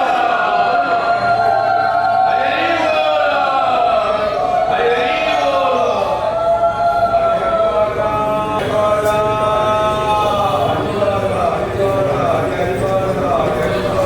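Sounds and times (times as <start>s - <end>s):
group chanting in unison: 0.0s - 12.5s.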